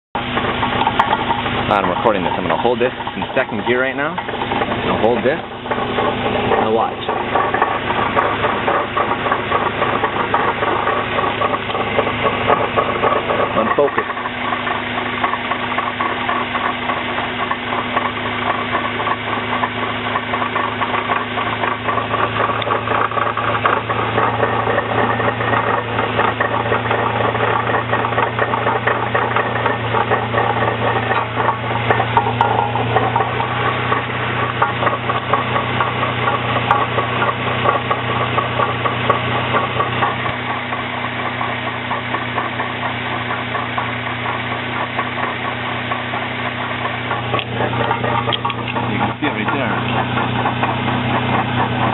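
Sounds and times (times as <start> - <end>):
rapid transmission rattle: 0.0 - 51.9
vehicle engine humming: 0.0 - 51.9.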